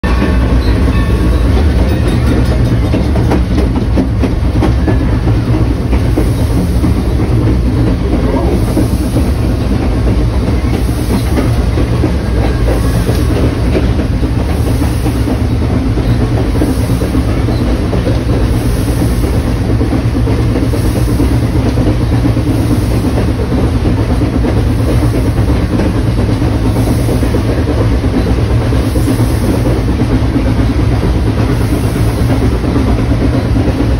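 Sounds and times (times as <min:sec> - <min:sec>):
steam locomotive wheels rattling: 0:00.0 - 0:33.9.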